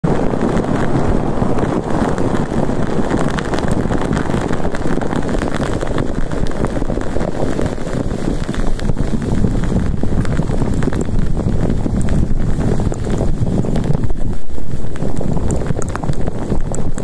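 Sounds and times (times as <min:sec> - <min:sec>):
dense low rushing noise: 0:00.0 - 0:17.0
faint crackles: 0:00.0 - 0:17.0.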